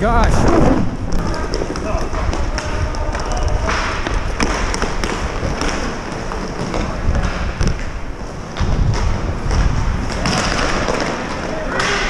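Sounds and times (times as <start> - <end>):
skate wheels rolling on plastic floor: 0.0 - 12.0
sticks and puck clacking: 1.0 - 12.0.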